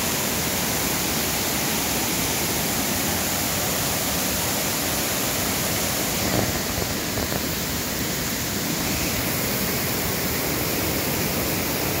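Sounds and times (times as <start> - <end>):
floodwater rushing over rocks: 0.0 - 12.0.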